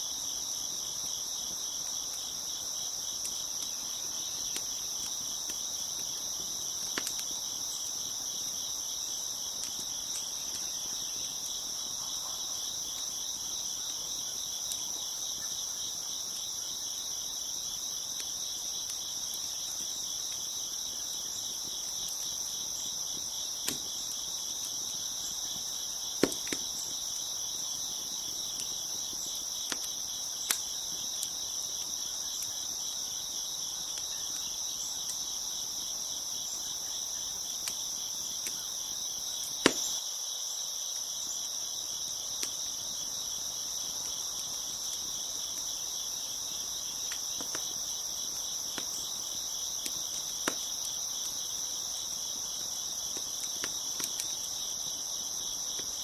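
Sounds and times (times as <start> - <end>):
crickets chirping: 0.0 - 56.0
wood fire crackling: 0.1 - 40.0, 41.9 - 56.0.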